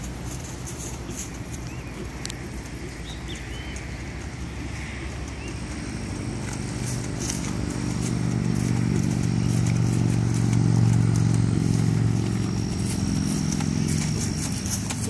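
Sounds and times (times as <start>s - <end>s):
horse hoofbeats trotting: 0.0s - 15.0s
vehicle engine droning: 0.0s - 15.0s.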